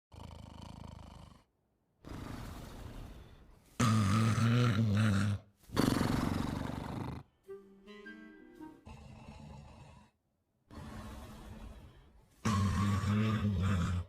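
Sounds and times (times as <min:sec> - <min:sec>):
cartoon dog snoring: 0:00.1 - 0:07.3, 0:08.8 - 0:14.0.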